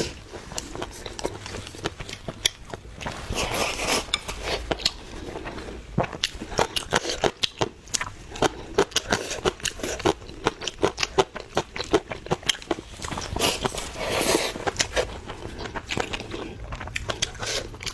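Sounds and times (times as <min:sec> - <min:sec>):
person chewing crunchy food: 0:00.0 - 0:17.9.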